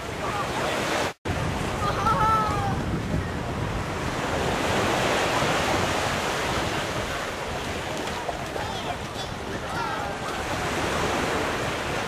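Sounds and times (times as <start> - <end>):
ocean surf washing: 0.0 - 12.0
wind buffeting microphone: 1.3 - 12.0.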